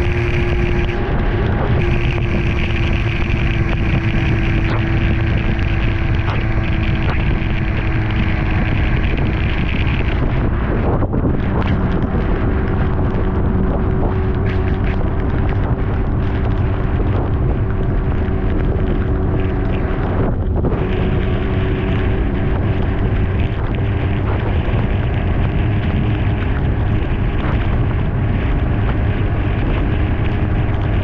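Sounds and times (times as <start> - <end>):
motorcycle engine running: 0.0 - 31.0
wind noise on microphone: 0.0 - 31.0.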